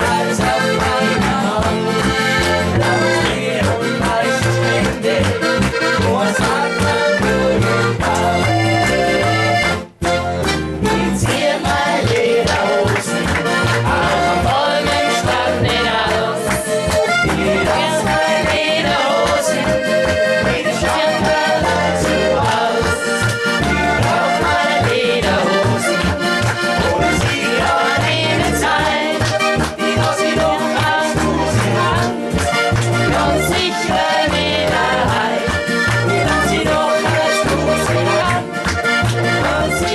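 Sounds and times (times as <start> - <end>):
accordion: 0.0 - 39.9
folk-pop band music: 0.0 - 39.9.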